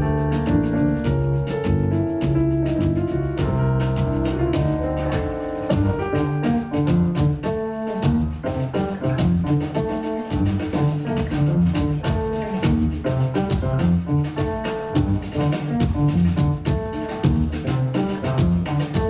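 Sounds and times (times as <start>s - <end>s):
piano chords and melody: 0.0s - 19.0s
upright bass walking: 0.0s - 19.0s.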